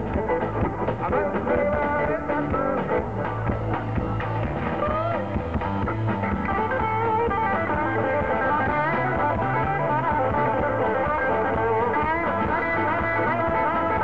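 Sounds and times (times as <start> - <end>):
blues-rock band playing: 0.0 - 14.0
electric guitar lead with bends: 0.0 - 14.0.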